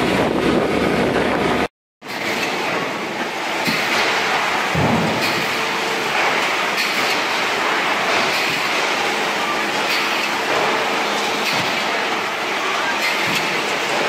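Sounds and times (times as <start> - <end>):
processing line machinery running: 0.0 - 14.0.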